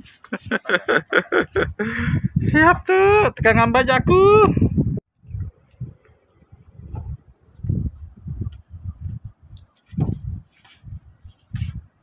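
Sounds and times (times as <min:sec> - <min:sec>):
insects chirring: 0:00.0 - 0:12.0
wind buffeting microphone: 0:00.0 - 0:12.0.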